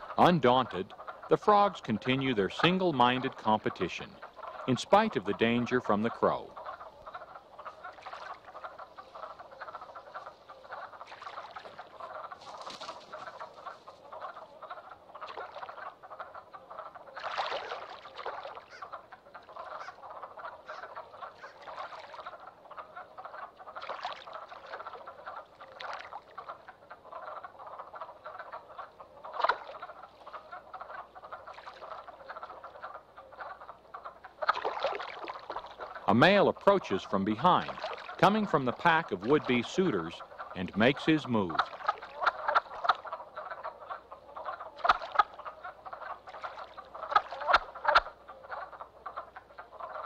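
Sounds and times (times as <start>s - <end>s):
chorus of frogs calling: 0.0s - 50.0s.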